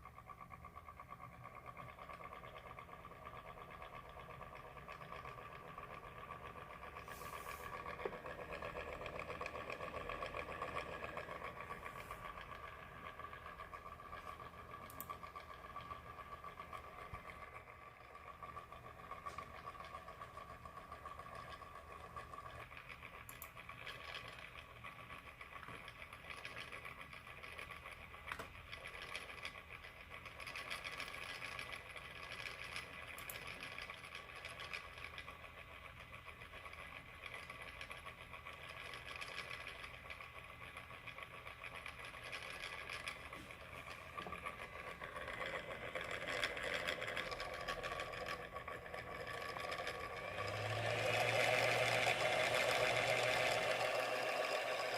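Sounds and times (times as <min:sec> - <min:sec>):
laptop cooling fan whine: 0:00.0 - 0:54.9.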